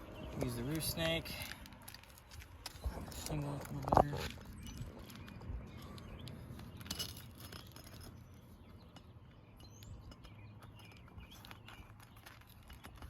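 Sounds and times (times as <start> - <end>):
light clicks of shingles: 0.3 - 13.0.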